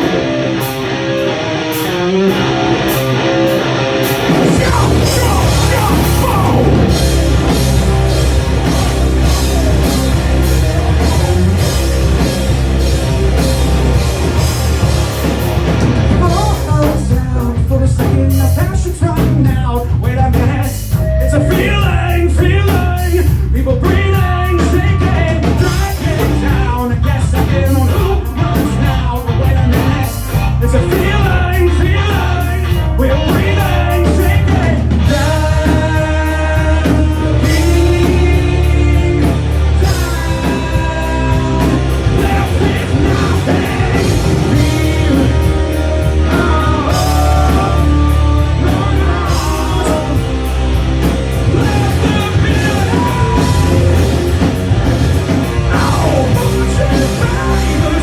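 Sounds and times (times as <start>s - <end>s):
bass guitar: 0.0s - 58.0s
distorted guitars: 0.0s - 58.0s
drums: 0.0s - 58.0s
lead vocal singing: 3.7s - 15.0s, 15.9s - 58.0s.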